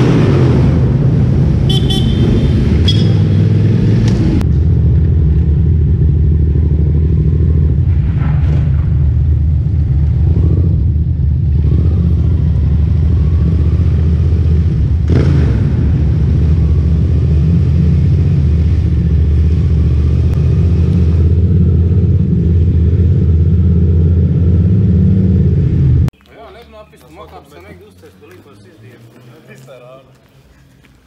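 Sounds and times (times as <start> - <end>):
motorcycle engine rumble: 0.0 - 31.0.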